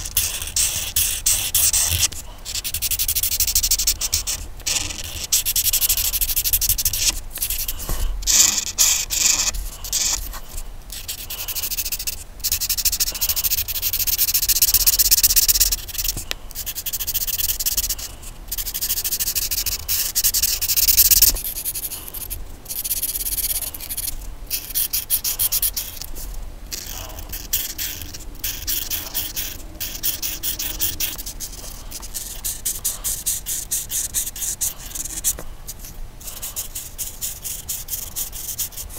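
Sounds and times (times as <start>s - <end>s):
colouring strokes scratching on paper: 0.0s - 38.9s.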